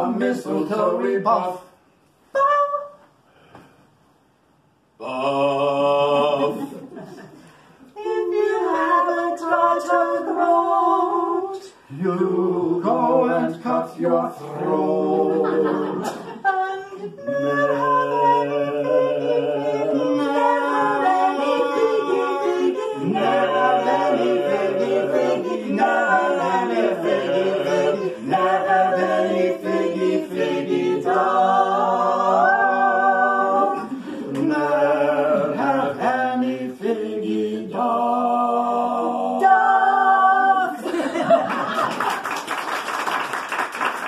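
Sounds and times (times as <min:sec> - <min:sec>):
vocal ensemble singing unaccompanied: 0:00.0 - 0:03.0, 0:05.0 - 0:41.8.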